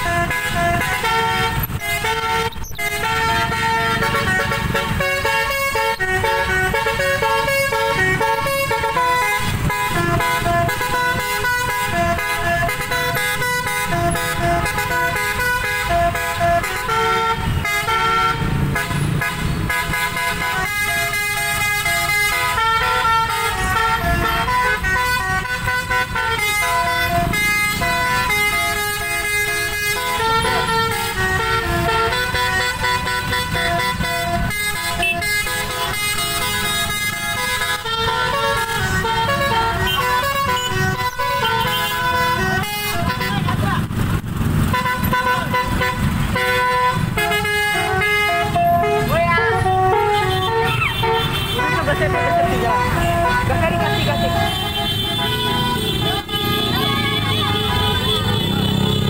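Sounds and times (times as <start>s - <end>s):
engines rumbling in traffic: 0.0s - 59.0s
melodic bus horn: 0.0s - 59.0s.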